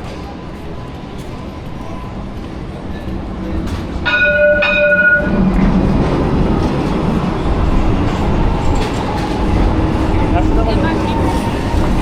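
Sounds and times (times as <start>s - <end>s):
tram bell ringing: 0.0s - 12.0s
tram wheels running on rails: 0.0s - 12.0s.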